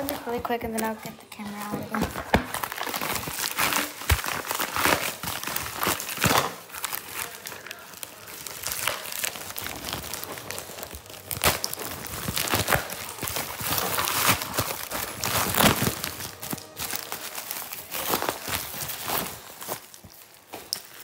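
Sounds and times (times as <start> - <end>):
packaging crinkling and tearing: 0.0 - 21.0.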